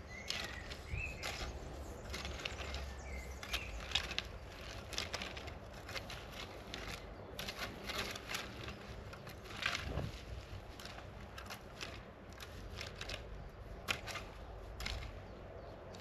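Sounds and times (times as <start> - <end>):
garden cultivator scraping soil: 0.0 - 16.0.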